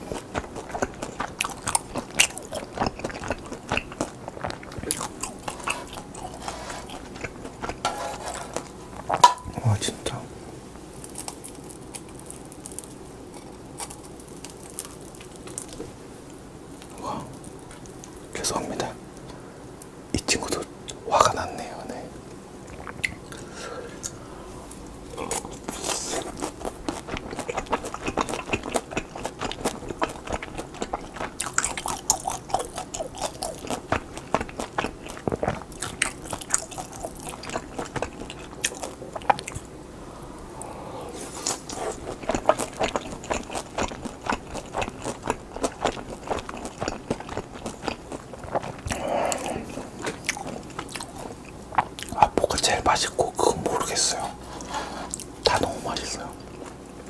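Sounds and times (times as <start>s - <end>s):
crunchy dough chewing: 0.0s - 9.8s, 10.9s - 19.3s, 22.6s - 39.7s, 40.6s - 57.0s.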